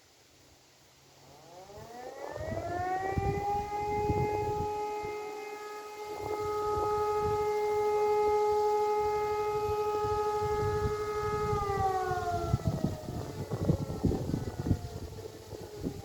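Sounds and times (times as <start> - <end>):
sirens winding down: 1.2 - 16.0
wind buffeting microphone: 2.3 - 5.2, 6.0 - 16.0.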